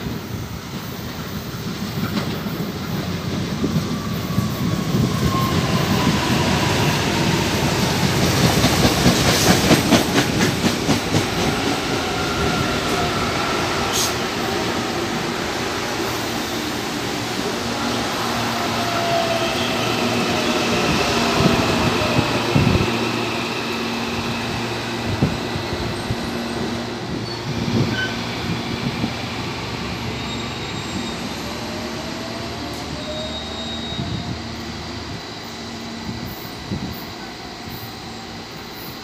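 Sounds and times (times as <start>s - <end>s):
train traction motors whining: 0.6s - 39.0s.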